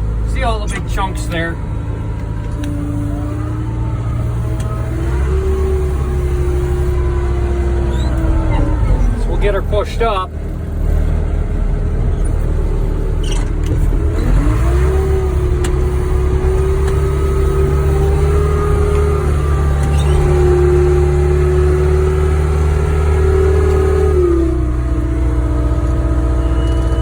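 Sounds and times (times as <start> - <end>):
wheel loader diesel engine revving: 0.0 - 27.0.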